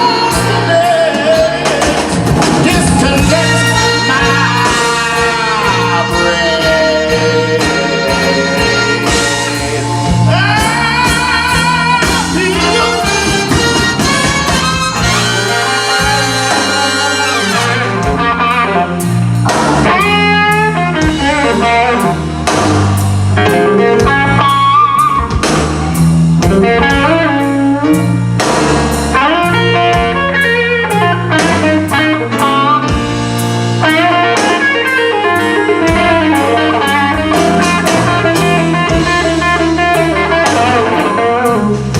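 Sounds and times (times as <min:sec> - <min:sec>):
live blues band playing: 0:00.0 - 0:41.9.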